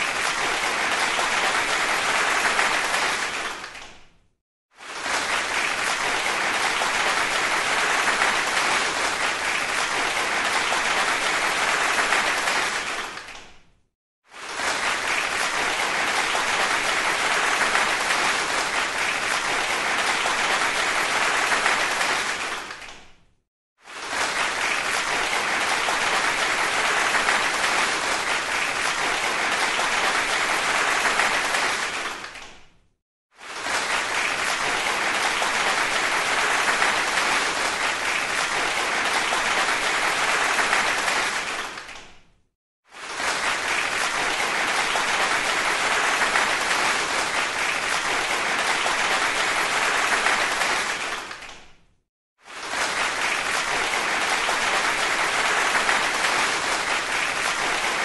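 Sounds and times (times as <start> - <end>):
crowd applauding: 0.0 - 4.0, 4.7 - 13.6, 14.3 - 23.1, 23.8 - 32.6, 33.4 - 42.1, 42.9 - 51.7, 52.5 - 58.0.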